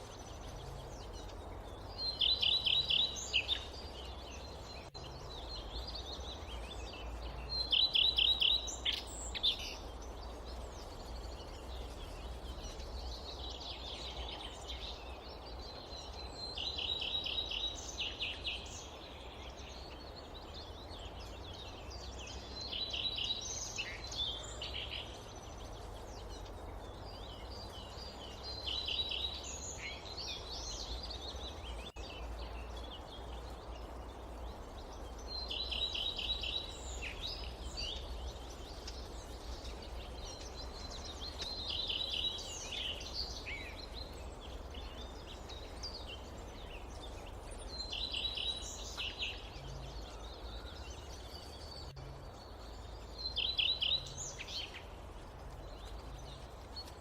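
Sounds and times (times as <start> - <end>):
low forest background noise: 0.0 - 57.0
songbird singing: 0.0 - 57.0.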